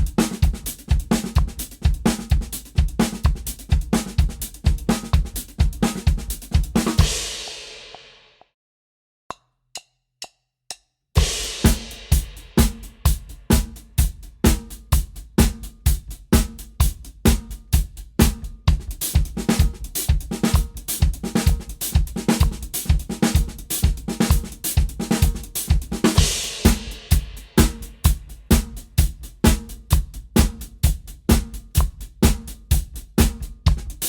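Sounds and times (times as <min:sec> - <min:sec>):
drum kit playing a fast groove: 0:00.0 - 0:08.2, 0:11.2 - 0:34.0.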